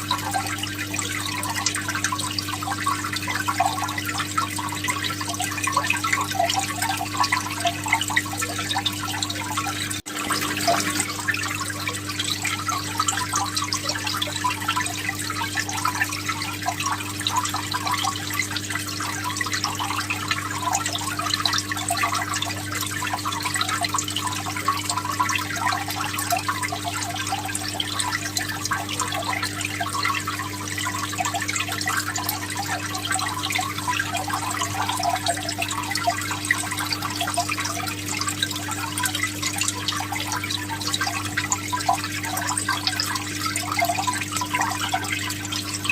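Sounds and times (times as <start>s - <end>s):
aquarium water bubbling: 0.0s - 45.9s.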